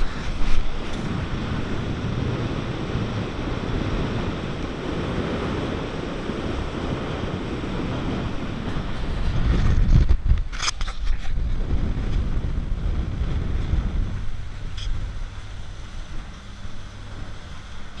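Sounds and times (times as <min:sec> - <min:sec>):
water rushing off boat hull: 0:00.0 - 0:18.0
wind buffeting microphone: 0:00.0 - 0:18.0.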